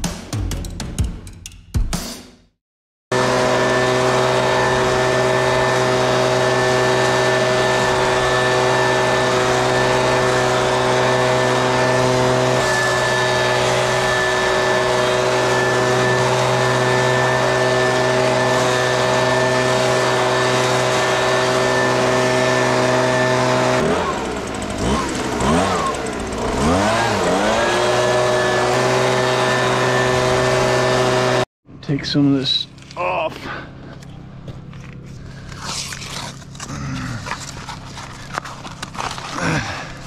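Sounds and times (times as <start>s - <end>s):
engine droning steadily: 3.1s - 40.0s.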